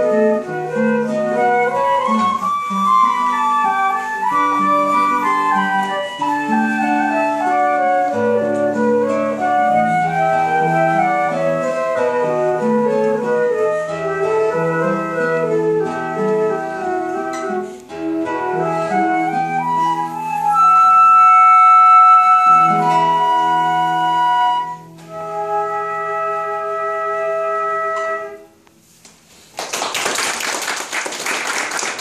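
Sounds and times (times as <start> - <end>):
flutes playing a duet: 0.0 - 28.6.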